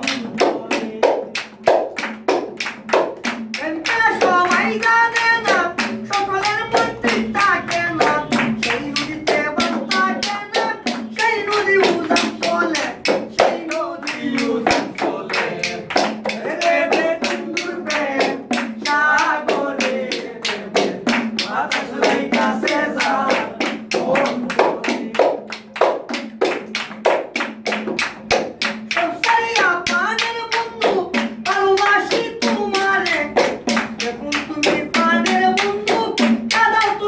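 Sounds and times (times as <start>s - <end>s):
men singing together: 0.0s - 1.6s, 3.6s - 26.2s, 28.9s - 37.0s
hand drum beating: 0.0s - 37.0s
hand-clapping: 0.0s - 37.0s.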